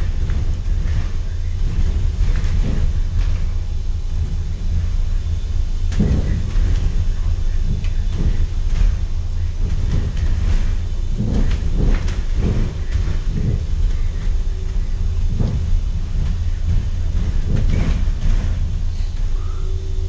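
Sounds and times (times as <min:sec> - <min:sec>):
bus low rumble: 0:00.0 - 0:20.0
rattles and knocks: 0:00.0 - 0:20.0.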